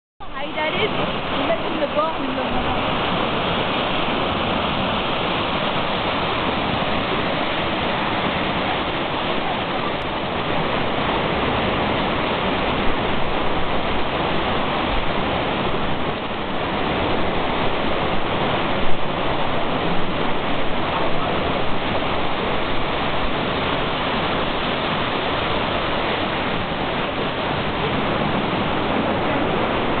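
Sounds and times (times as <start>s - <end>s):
river water rushing through rapids: 0.2s - 30.0s.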